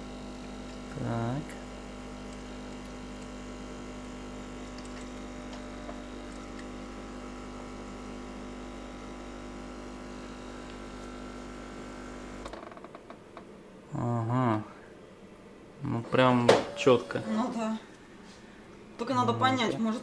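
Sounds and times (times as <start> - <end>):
coffee machine pump running: 0.0 - 13.8, 15.8 - 20.0.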